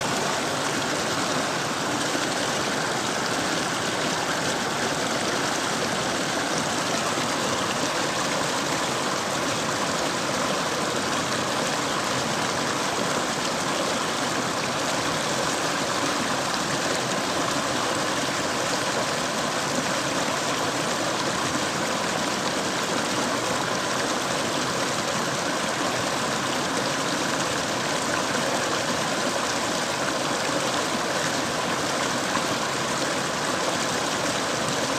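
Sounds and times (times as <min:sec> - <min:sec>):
mountain stream flowing: 0:00.0 - 0:34.9.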